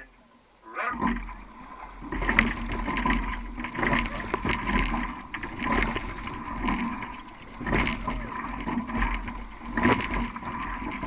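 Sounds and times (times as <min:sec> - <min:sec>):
water rushing: 0:00.0 - 0:11.0
oar blades splashing: 0:00.7 - 0:11.0
oars knocking: 0:00.7 - 0:11.0.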